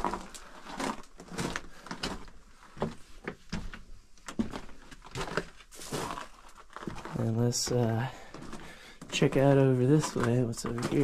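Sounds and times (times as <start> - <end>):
footsteps on loose rock and gravel: 0.0 - 11.0.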